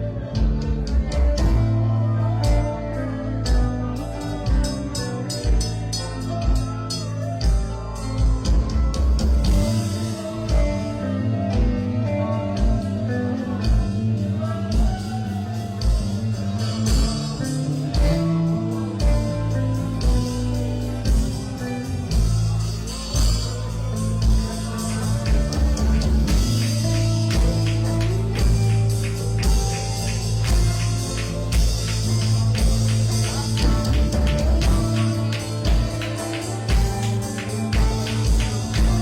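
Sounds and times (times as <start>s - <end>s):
band playing a song: 0.0s - 39.0s
person singing: 0.0s - 39.0s.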